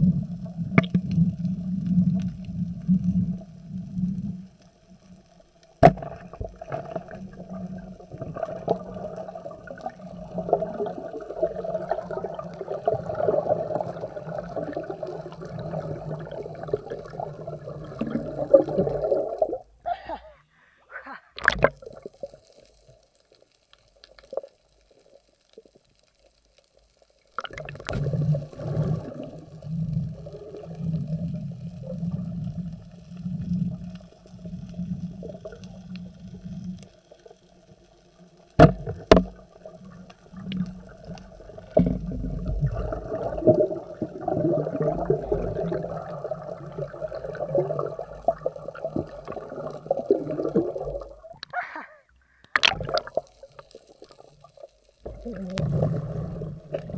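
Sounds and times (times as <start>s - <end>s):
underwater rushing and gurgling: 0.0s - 19.8s, 27.3s - 51.4s, 52.5s - 56.9s.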